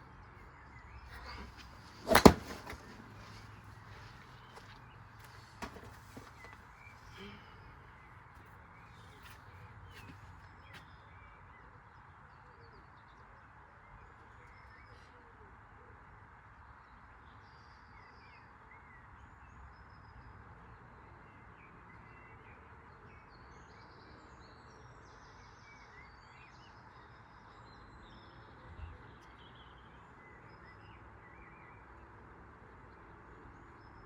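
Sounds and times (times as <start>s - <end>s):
faint background noise: 0.0s - 34.0s.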